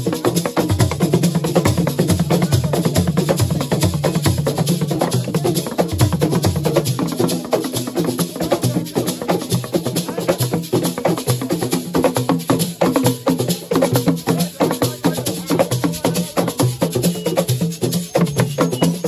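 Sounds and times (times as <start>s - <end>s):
percussion ensemble drumming: 0.0s - 19.0s.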